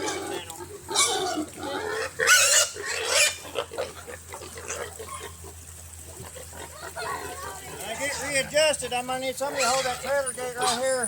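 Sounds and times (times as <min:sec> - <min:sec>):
pigs grunting: 0:00.0 - 0:11.0
pigs squealing: 0:00.0 - 0:11.0.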